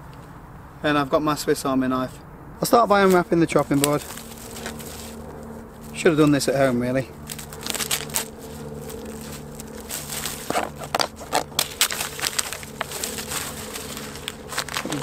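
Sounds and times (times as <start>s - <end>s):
plastic wrapping crinkling: 2.9s - 15.0s.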